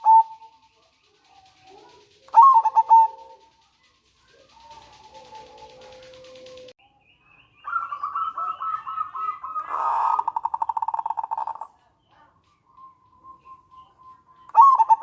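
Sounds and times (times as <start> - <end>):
dove cooing and trilling: 0.0 - 6.7, 7.6 - 12.3, 12.9 - 15.0.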